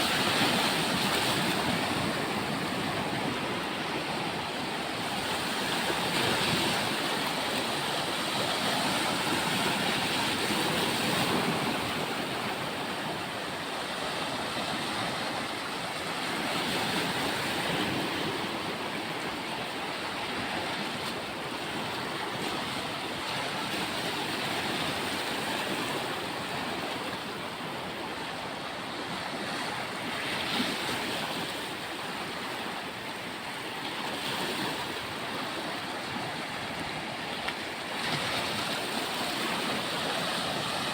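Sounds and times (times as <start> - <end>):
sea surf washing onto beach: 0.0 - 40.9.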